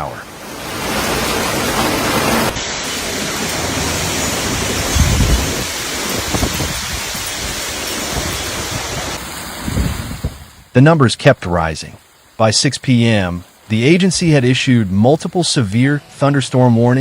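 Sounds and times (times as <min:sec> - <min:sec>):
heavy rain: 0:00.0 - 0:16.2
wind: 0:00.0 - 0:17.0.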